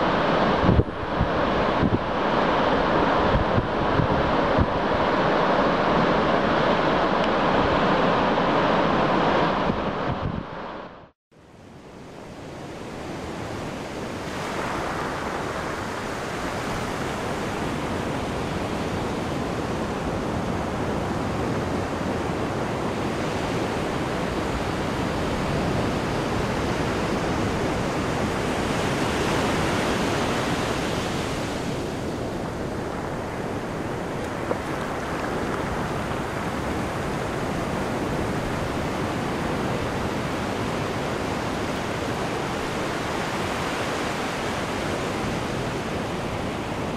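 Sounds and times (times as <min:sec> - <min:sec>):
ocean waves breaking: 0:00.0 - 0:11.1, 0:12.0 - 0:46.9.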